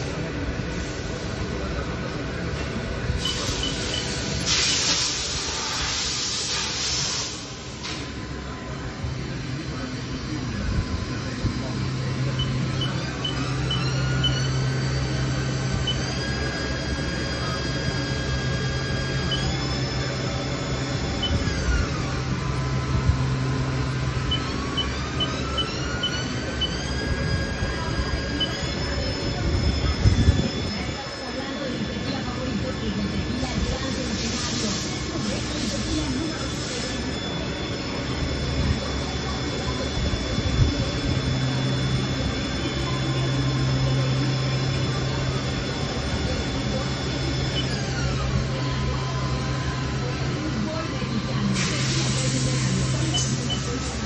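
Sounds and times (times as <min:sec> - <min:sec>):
lathe spindle whine: 0:00.0 - 0:54.0.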